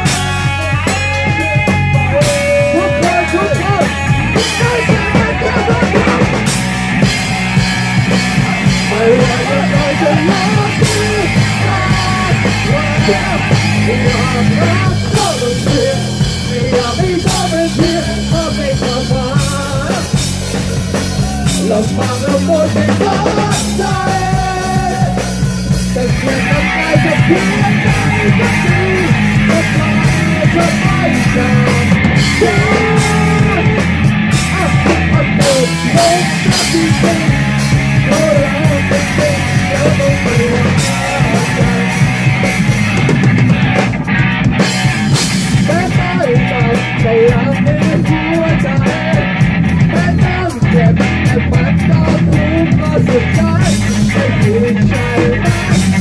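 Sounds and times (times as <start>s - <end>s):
person singing: 0.0s - 43.2s, 45.1s - 56.0s
live rock band playing: 0.0s - 56.0s.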